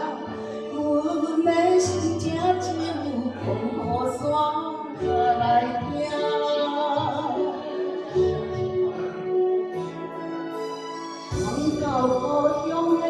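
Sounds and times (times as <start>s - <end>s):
woman singing into a microphone: 0.0s - 8.8s, 11.3s - 13.0s
karaoke backing track: 0.0s - 13.0s.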